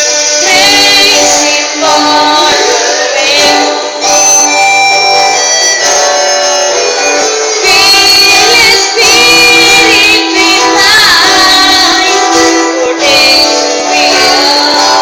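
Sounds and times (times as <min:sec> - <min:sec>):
person singing: 0:00.0 - 0:04.6, 0:07.0 - 0:15.0
held instrumental chords: 0:00.0 - 0:15.0.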